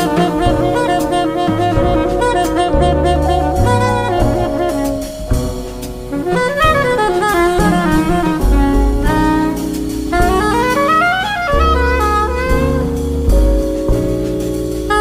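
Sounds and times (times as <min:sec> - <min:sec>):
saxophone fast melodic runs: 0:00.0 - 0:13.1
bass: 0:00.0 - 0:15.0
drum kit: 0:00.0 - 0:15.0
piano: 0:00.0 - 0:15.0.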